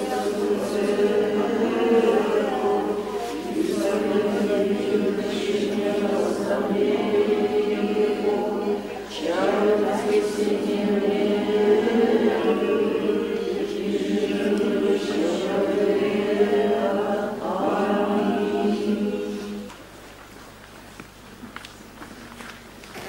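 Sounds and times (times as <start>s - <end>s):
group chanting in long notes: 0.0s - 19.8s.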